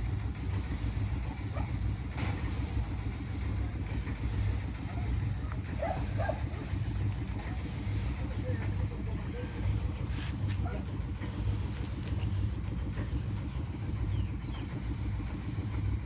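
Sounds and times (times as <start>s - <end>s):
truck engine and vacuum pump drone: 0.0s - 16.0s.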